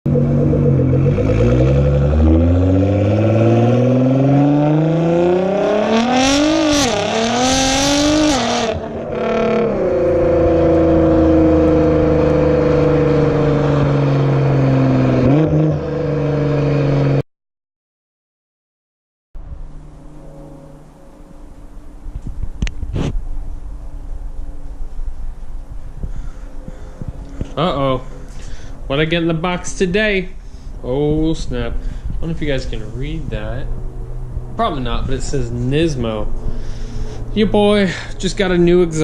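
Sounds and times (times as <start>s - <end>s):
car engine revving: 0.1s - 17.2s, 19.7s - 39.0s.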